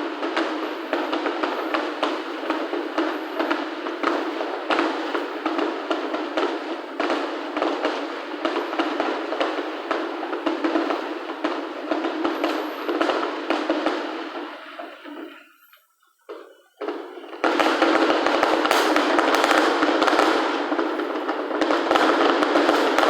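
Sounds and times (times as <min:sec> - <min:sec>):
fireworks bursts and crackling: 0:00.0 - 0:23.0.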